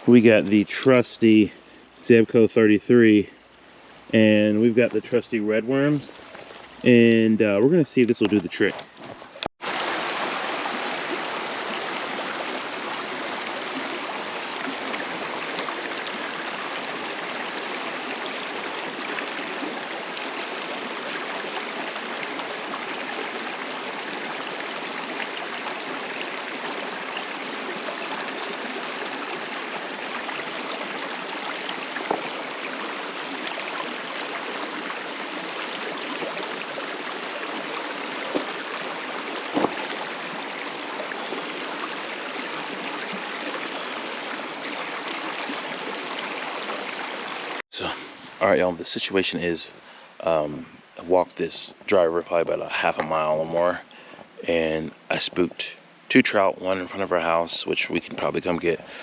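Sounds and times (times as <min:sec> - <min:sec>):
creek water over rocks: 0:00.0 - 0:59.0.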